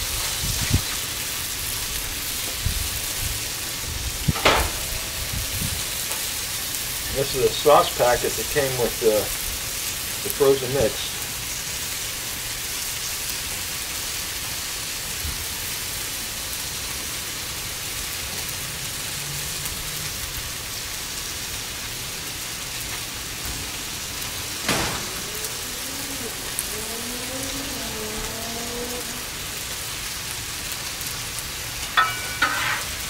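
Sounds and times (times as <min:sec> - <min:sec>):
stir-fry sizzling on griddle: 0:00.0 - 0:33.0.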